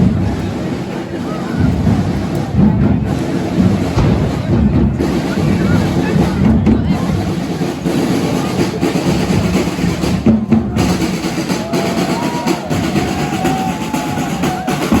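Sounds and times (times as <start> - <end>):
dense steady din: 0.0 - 15.0
procession band drums: 0.0 - 15.0
bass drum: 1.6 - 15.0.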